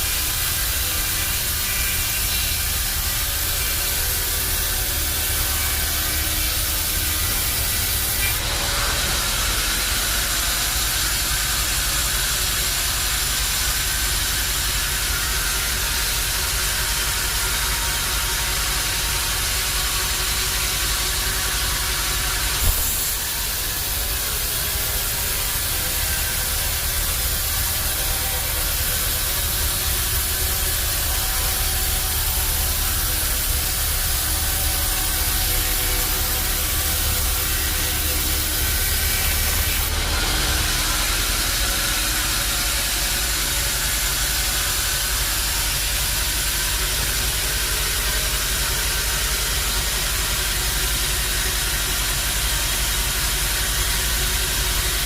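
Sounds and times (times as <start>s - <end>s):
low motor hum: 0.0s - 50.2s
band saw hissing: 0.0s - 55.0s.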